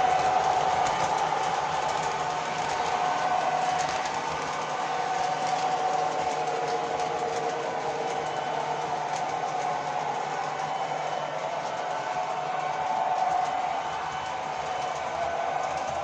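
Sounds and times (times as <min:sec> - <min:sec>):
train running hum and rush: 0:00.0 - 0:16.0.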